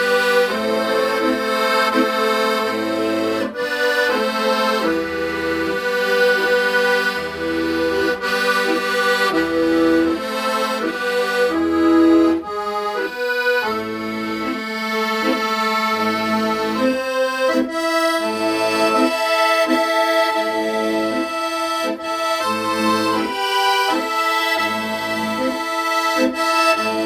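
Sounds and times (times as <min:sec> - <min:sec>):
accordion melody: 0:00.0 - 0:27.0
low bass notes: 0:00.0 - 0:27.0.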